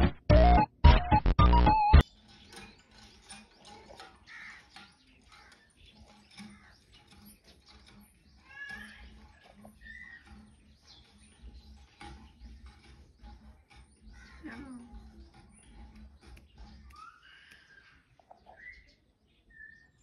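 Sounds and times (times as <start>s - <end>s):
bird chirps and calls: 2.0s - 20.0s.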